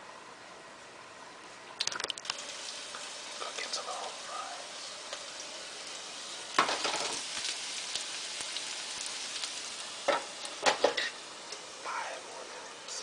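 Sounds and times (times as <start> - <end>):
fries sizzling in hot oil: 1.8 - 13.0.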